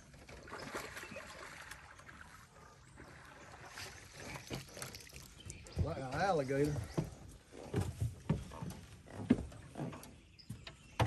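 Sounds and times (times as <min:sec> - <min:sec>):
water sloshing around boat: 0:00.0 - 0:11.0.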